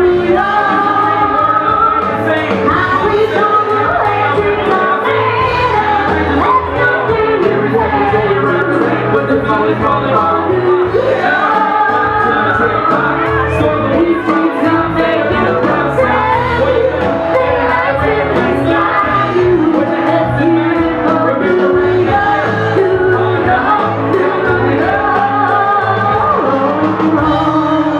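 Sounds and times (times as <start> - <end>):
live band playing pop: 0.0 - 27.9
man singing: 0.0 - 27.9
woman singing: 0.0 - 27.9.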